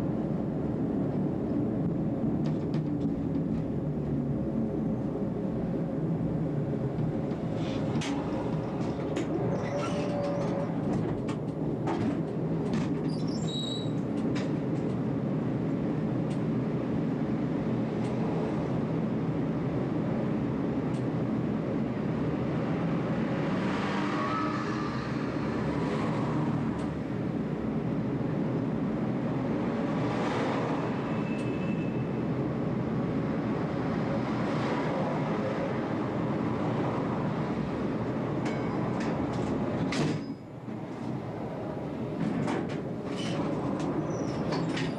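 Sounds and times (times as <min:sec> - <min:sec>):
tram wheels and motors rumbling: 0:00.0 - 0:44.9.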